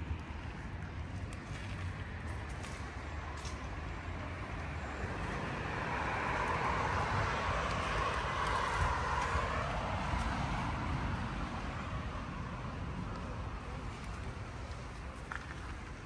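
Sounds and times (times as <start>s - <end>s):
low traffic rumble: 0.0s - 16.0s
vehicle passing: 1.4s - 16.0s.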